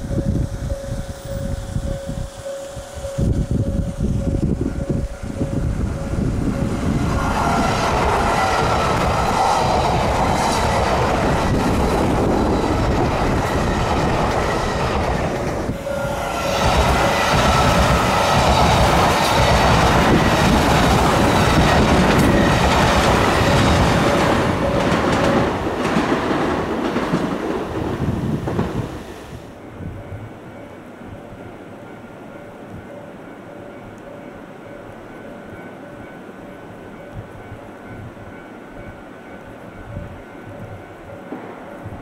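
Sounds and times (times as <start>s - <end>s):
steady train whine: 0.0s - 42.0s
train wheels rumbling on rail: 0.0s - 42.0s.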